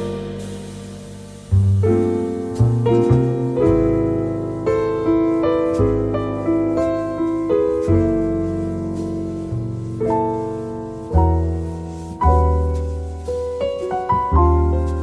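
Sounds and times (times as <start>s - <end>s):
deep bass notes: 0.0s - 15.0s
piano chords and notes: 0.0s - 15.0s.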